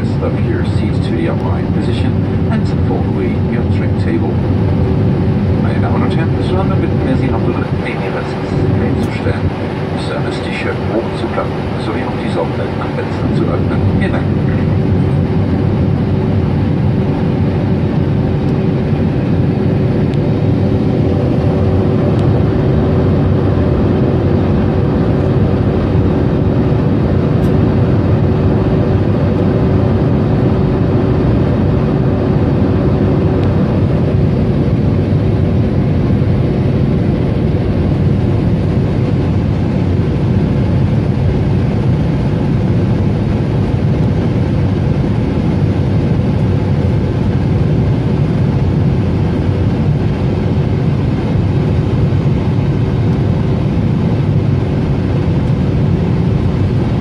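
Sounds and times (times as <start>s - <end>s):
jet cabin roar: 0.0s - 57.0s.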